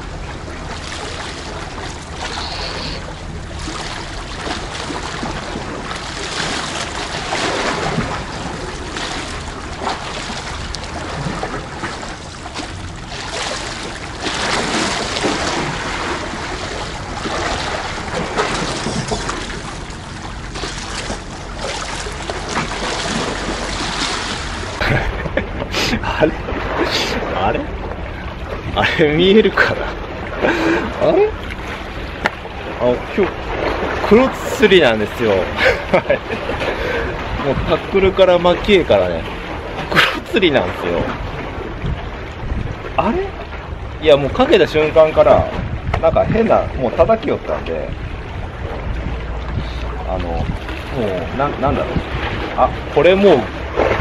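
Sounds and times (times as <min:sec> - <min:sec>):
sea waves sloshing on concrete: 0:00.0 - 0:54.0
wind buffeting microphone: 0:00.0 - 0:54.0.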